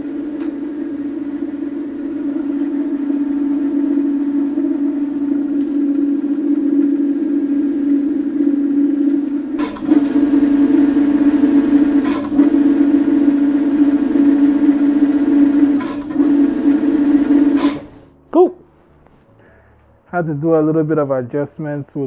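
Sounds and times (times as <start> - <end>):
scooter wheel and brake whine: 0.0 - 18.1.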